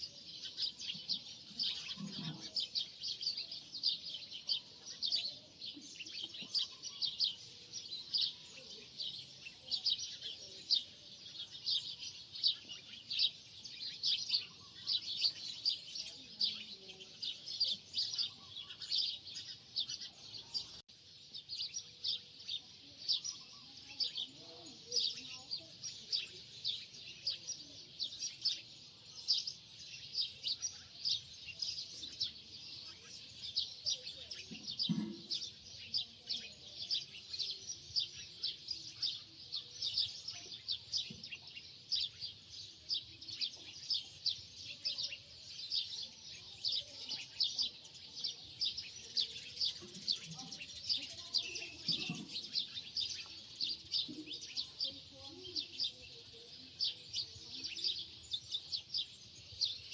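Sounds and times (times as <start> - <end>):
small birds chirping rapidly: 0.0 - 59.9.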